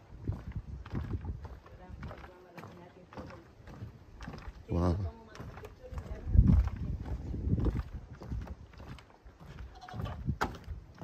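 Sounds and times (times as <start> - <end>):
footsteps on wooden bridge: 0.0 - 11.0.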